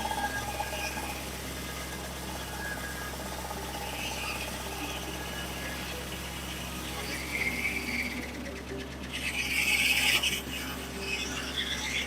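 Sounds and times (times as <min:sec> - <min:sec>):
sawmill engine humming: 0:00.0 - 0:12.0.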